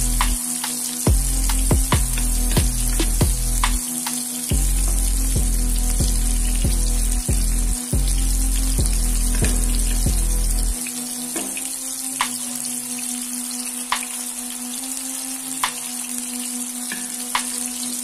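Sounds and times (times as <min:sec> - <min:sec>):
background music: 0:00.0 - 0:18.0
food sizzling in oil: 0:00.0 - 0:18.0.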